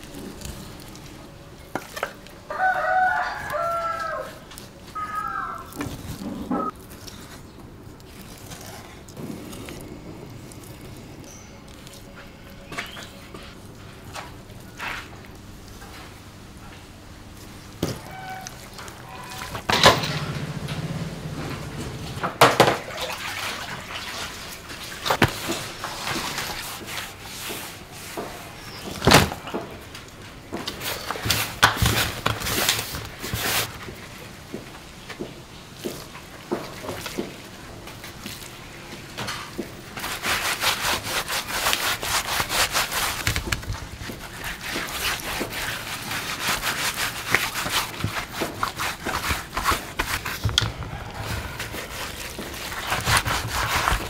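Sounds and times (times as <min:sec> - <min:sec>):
hands rubbing and scraping meat: 0:00.0 - 0:22.2, 0:23.1 - 0:54.0.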